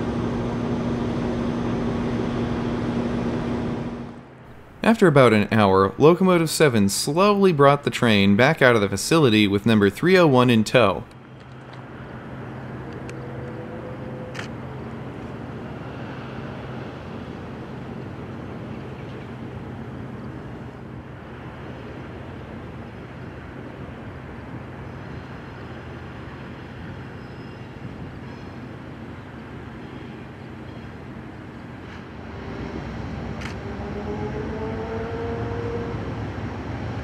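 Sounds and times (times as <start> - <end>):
diesel locomotive engine rumbling: 0.0 - 37.0.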